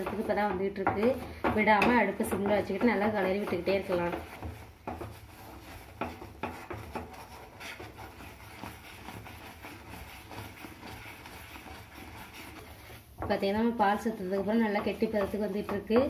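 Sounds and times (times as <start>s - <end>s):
spatula knocking against pan: 0.0s - 11.0s, 13.2s - 16.0s
spatula scraping a frying pan: 0.0s - 16.0s.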